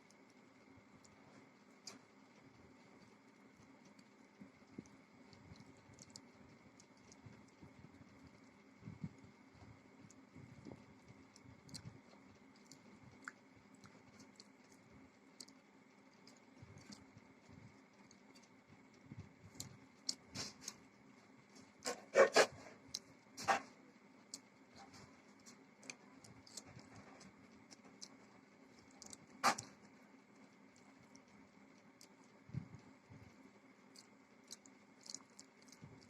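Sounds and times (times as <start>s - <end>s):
faint steady hum: 0.0s - 36.0s
sharp crunchy clicks: 0.0s - 36.0s
soft chewing: 0.0s - 36.0s.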